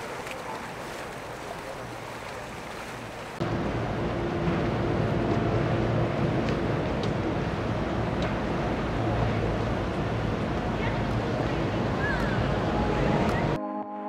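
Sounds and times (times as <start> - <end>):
boat engine droning: 0.0 - 13.6
water: 0.0 - 13.6.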